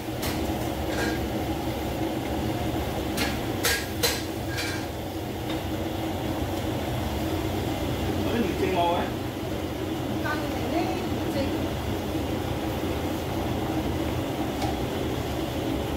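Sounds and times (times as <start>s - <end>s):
gas burner rumble: 0.0s - 15.9s
vegetables stir-frying in wok: 0.0s - 15.9s.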